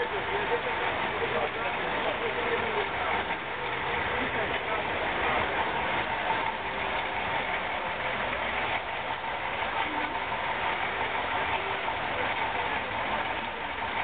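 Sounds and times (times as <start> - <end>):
heavy truck diesel engine running: 0.0 - 14.0.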